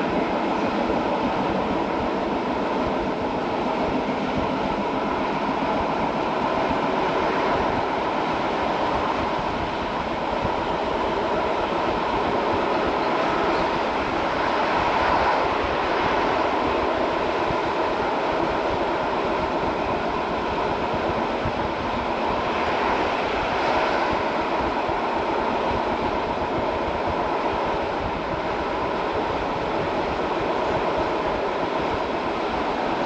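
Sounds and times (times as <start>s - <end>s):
train running along track: 0.0s - 33.0s.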